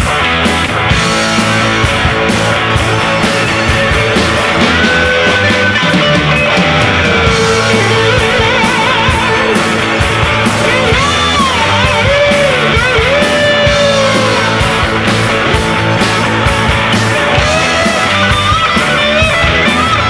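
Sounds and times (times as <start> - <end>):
lead guitar solo: 0.0 - 20.0
rock band playing: 0.0 - 20.0.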